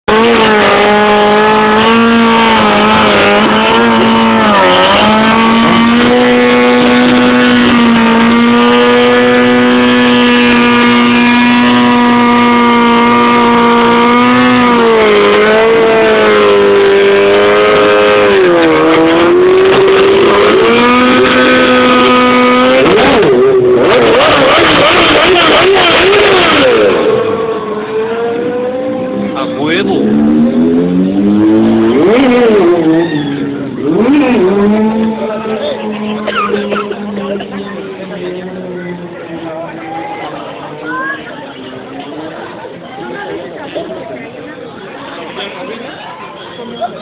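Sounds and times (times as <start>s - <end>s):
motorcycle engine revving hard: 0.1s - 42.7s.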